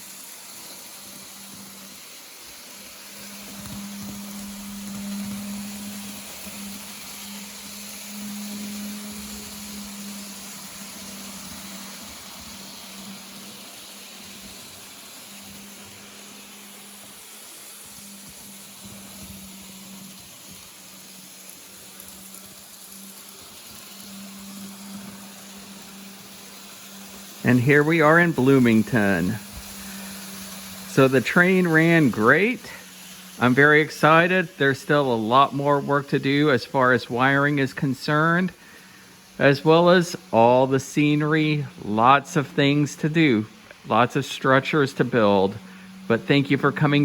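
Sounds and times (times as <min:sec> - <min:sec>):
model locomotive motor hum: 0:00.0 - 0:47.0
steady hiss: 0:00.0 - 0:47.0.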